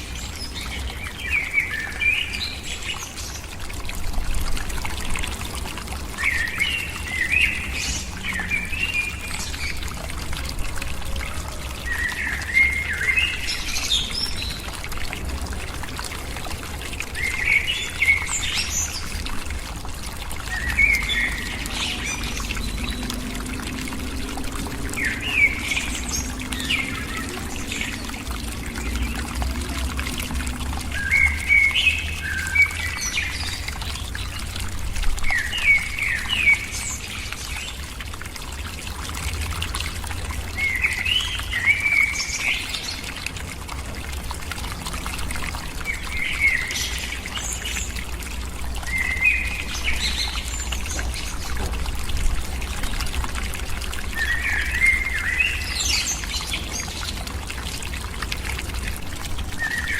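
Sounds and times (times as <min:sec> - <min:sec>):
trickling pouring water: 0:00.0 - 0:59.9.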